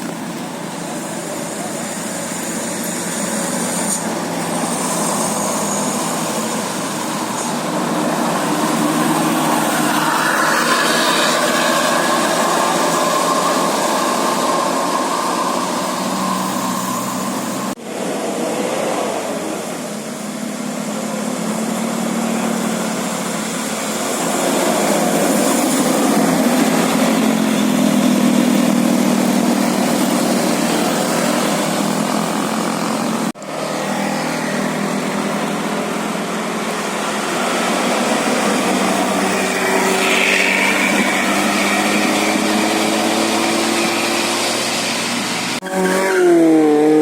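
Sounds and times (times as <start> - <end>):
steady rushing noise: 0.0 - 45.6
vehicle engines running: 0.0 - 47.0.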